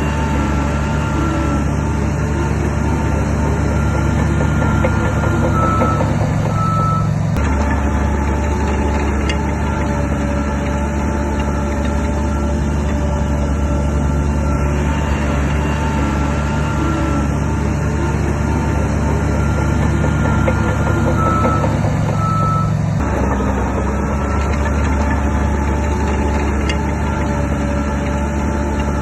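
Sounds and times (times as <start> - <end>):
heavy machinery diesel engine: 0.0 - 29.0
reversing alarm beeping: 0.0 - 29.0.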